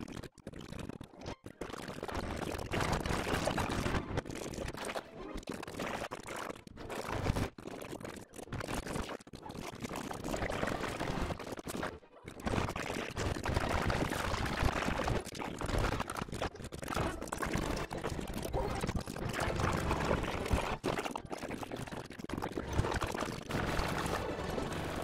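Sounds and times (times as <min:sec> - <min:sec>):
animated film sound effects: 0:00.0 - 0:25.0.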